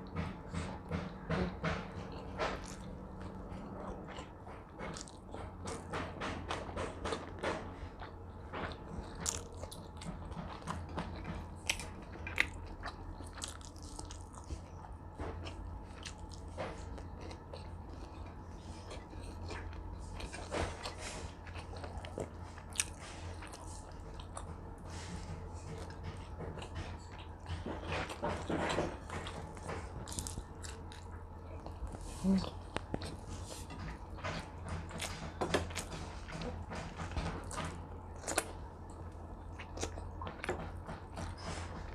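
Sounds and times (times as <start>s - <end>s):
chewing and crunching food: 0.0s - 41.9s
steady low hum: 0.0s - 41.9s.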